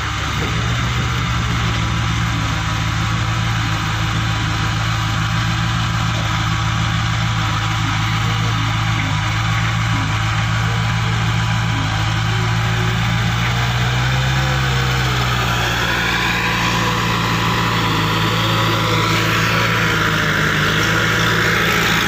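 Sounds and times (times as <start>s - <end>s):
diesel engine droning under load: 0.0s - 22.0s.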